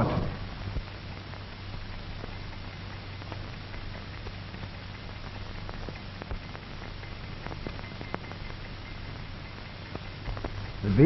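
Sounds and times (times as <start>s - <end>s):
constant low hum: 0.0s - 11.0s
film soundtrack hiss: 0.0s - 11.0s
clicks and pops: 0.7s - 10.9s.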